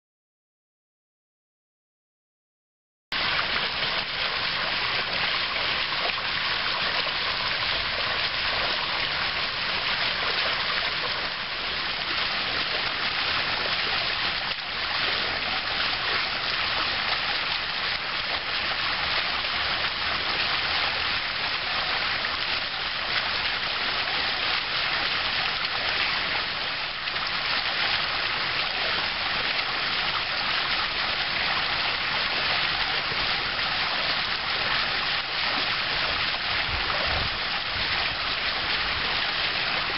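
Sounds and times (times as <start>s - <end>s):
water jet splashing into pool: 3.2s - 39.9s.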